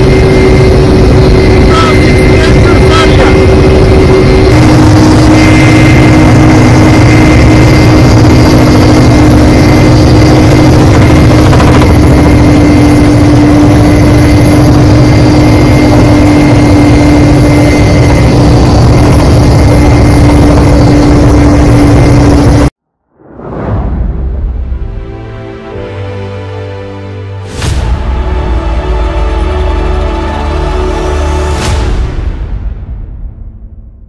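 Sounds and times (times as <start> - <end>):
aircraft drone in flight: 0.0 - 22.7, 24.2 - 32.4.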